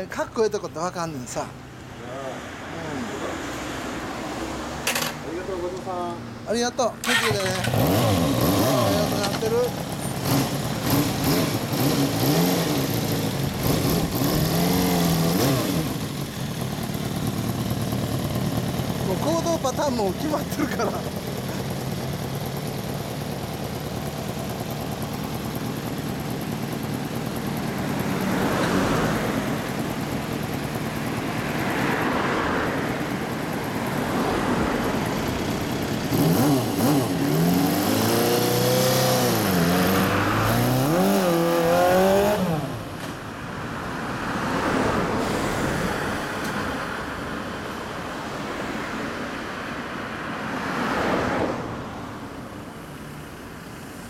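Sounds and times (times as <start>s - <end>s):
motorcycle engine idling and revving: 0.0s - 54.0s
road traffic: 0.0s - 54.0s.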